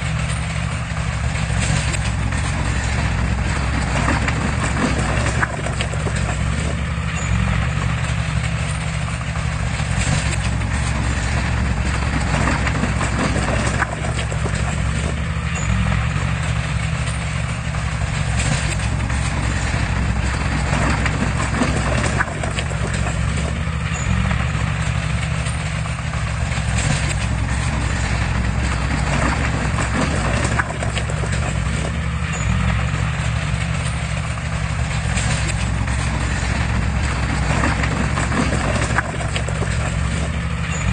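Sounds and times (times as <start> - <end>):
diesel engine drone: 0.0 - 40.9
metallic clanking and rattling: 0.0 - 40.9.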